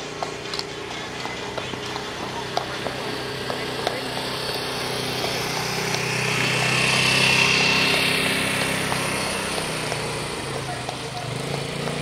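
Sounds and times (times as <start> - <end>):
motor engine hum: 0.0 - 12.0.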